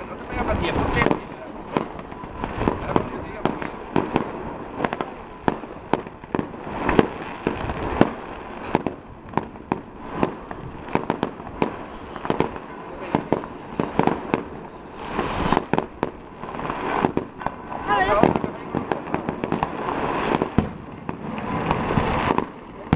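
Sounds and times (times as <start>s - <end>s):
fireworks banging and cracking: 0.0s - 22.9s.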